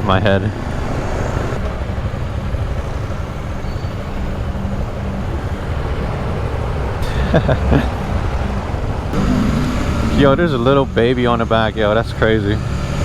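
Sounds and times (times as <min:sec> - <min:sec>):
wind and road noise: 0:00.0 - 0:13.0
motorcycle engine running: 0:00.4 - 0:13.0.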